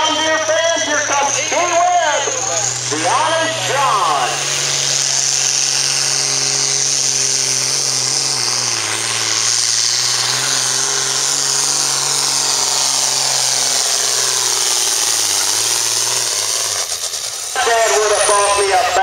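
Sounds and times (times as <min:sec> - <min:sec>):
tractor diesel engine at full throttle: 0:00.0 - 0:19.0.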